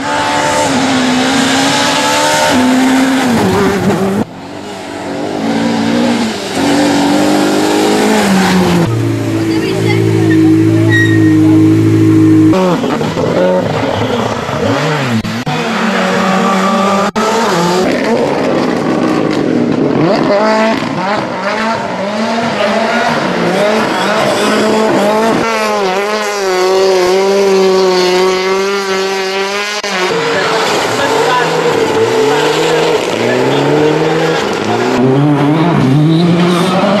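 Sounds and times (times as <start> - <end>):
rally cars revving and accelerating: 0.0 - 37.0.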